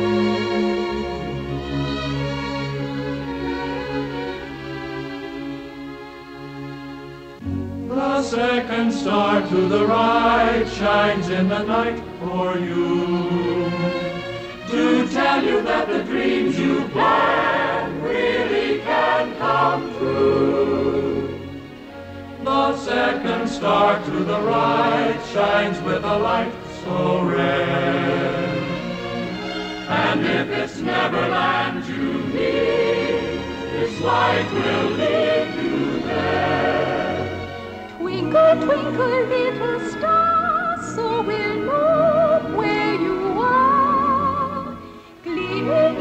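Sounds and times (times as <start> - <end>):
choir singing long held notes: 0.0 - 46.0.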